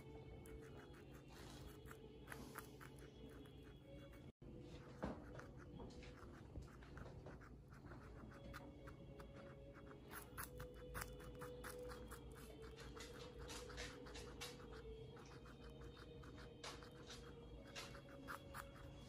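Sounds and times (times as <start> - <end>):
guinea pig chewing crunchily: 0.0 - 19.0.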